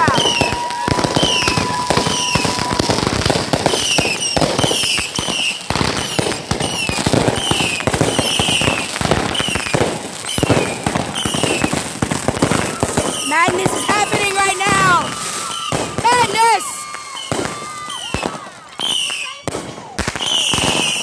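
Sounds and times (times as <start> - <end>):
falling firework whistles: 0.0 - 21.0
fireworks bangs and crackles: 0.0 - 21.0.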